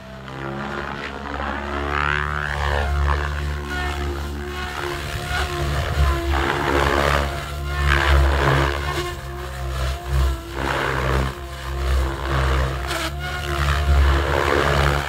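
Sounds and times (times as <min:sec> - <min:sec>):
helicopter rotor drone: 0:00.0 - 0:15.0.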